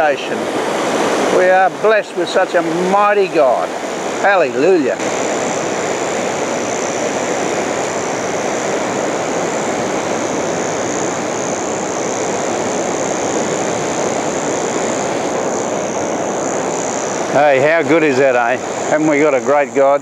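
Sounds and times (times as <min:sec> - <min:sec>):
ocean surf breaking: 0:00.0 - 0:20.0
thin high hiss: 0:00.0 - 0:20.0.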